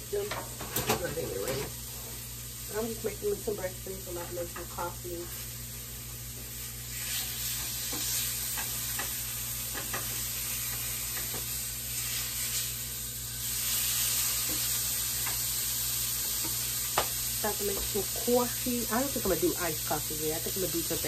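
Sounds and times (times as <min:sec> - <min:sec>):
sausages sizzling in a frying pan: 0:00.0 - 0:21.0.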